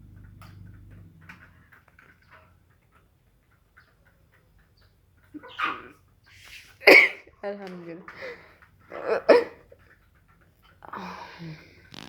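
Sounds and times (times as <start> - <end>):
birds pecking at food: 0.0 - 6.8, 7.6 - 12.0.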